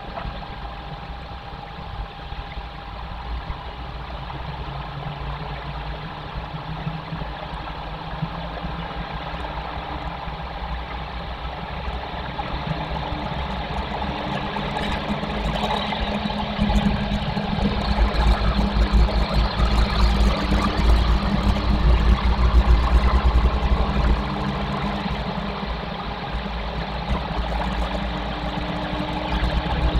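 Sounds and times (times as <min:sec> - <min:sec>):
outdoor rumbling noise: 0:00.0 - 0:29.9.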